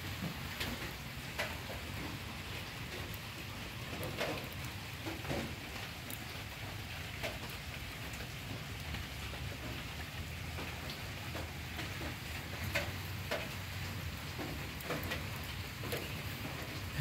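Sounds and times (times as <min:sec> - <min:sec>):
steady rain falling: 0:00.0 - 0:17.0
drops ticking on surfaces: 0:00.1 - 0:17.0.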